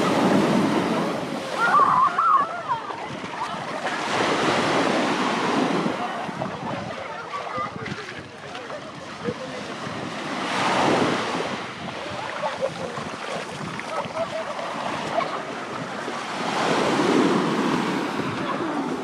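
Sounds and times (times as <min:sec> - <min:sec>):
waves breaking on a beach: 0:00.0 - 0:19.0.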